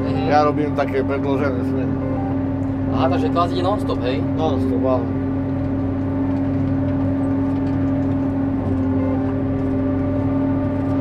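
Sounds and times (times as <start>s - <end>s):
forage harvester droning: 0.0s - 11.0s.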